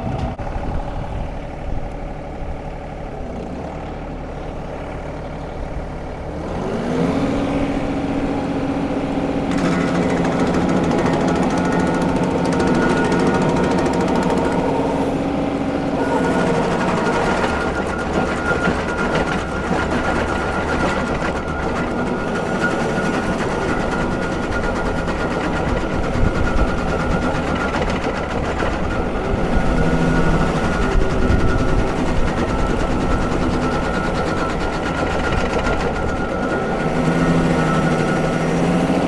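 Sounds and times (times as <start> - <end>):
diesel tractor engine under load: 0.0 - 39.0
stump grinder chattering: 3.1 - 39.0.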